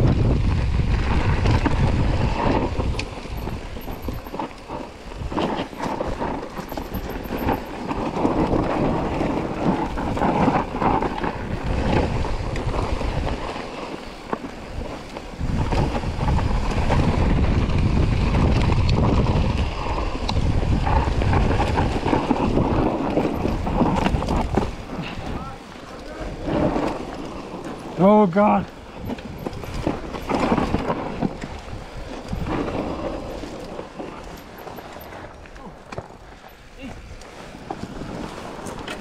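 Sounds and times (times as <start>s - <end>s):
bike knocking and rattling: 0.0s - 39.0s
bike tyre noise: 0.0s - 39.0s
wind buffeting microphone: 0.0s - 39.0s.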